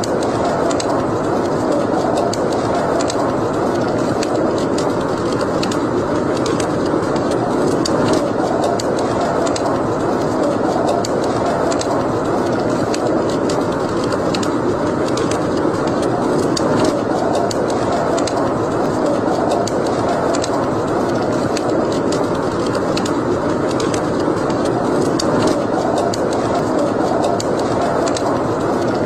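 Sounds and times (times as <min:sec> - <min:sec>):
fire crackles and pops: 0:00.0 - 0:29.0
rushing rumble of flames: 0:00.0 - 0:29.0.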